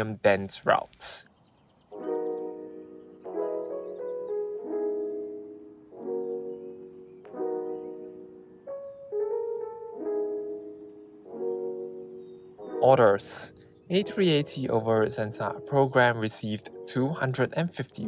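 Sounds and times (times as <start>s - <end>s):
slow piano chords: 1.7s - 18.0s.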